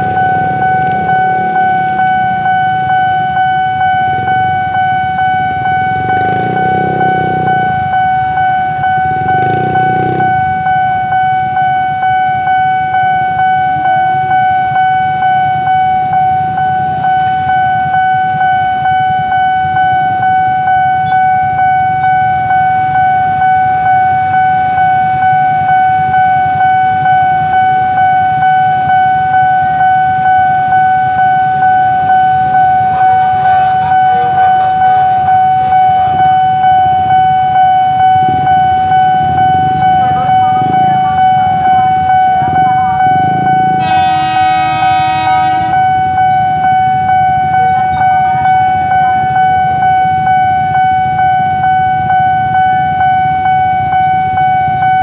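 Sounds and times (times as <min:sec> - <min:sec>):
level crossing alarm pulsing tone: 0:00.0 - 0:55.0
motorcycles idling: 0:00.0 - 0:55.0.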